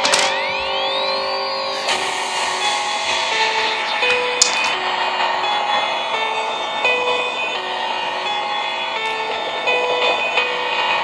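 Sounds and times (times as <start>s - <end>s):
recorded song playing: 0.0s - 11.0s.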